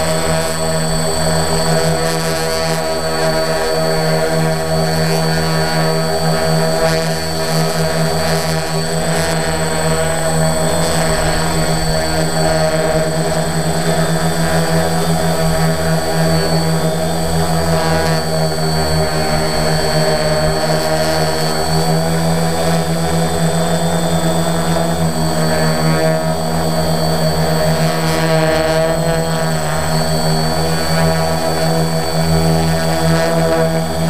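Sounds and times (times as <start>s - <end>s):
drone propellers whining and buzzing: 0.0s - 34.0s.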